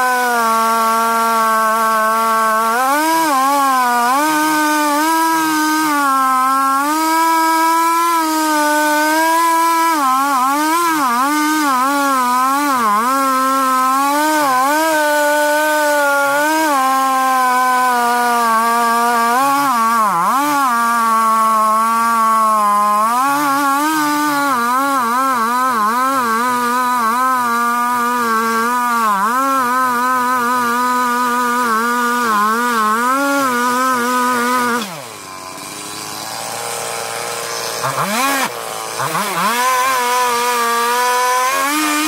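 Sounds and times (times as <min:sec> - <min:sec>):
chainsaw cutting log: 0:00.0 - 0:42.0.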